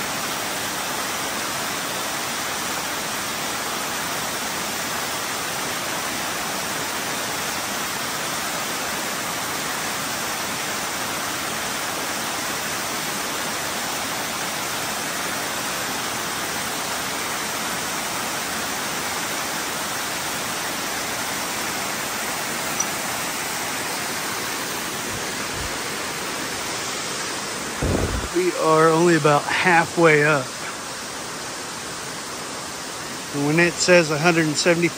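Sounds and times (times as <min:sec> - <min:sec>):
waterfall roar: 0:00.0 - 0:34.9.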